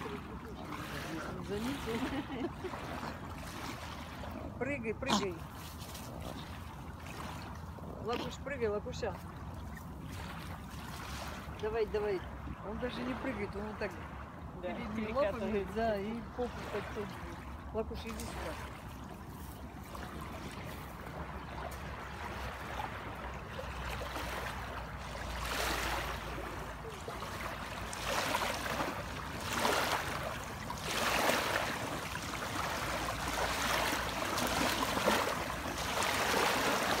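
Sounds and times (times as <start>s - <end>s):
waves lapping at shore: 0.0s - 37.0s.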